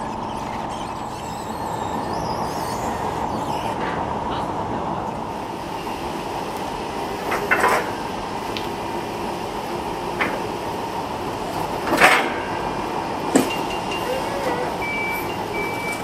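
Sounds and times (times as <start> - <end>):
forklift running: 0.0 - 16.0.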